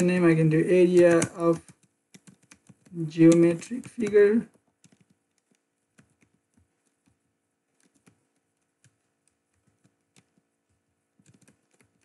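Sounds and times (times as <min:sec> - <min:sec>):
typing on computer keyboard: 0:00.8 - 0:12.0.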